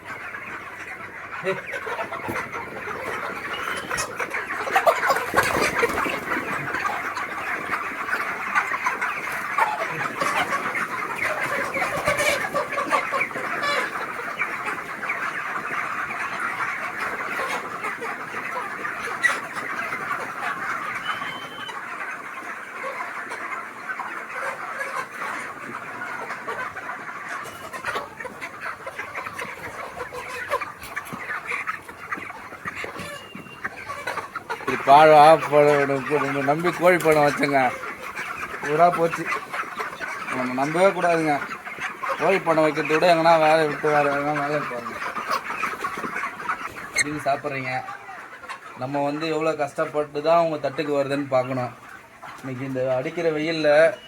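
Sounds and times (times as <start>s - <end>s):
chickens clucking and chirping: 0.0s - 54.0s.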